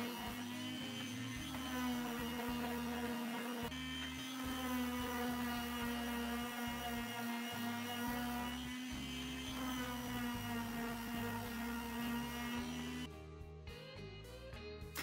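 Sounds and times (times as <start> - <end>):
palm sander motor whine: 0.0 - 13.1.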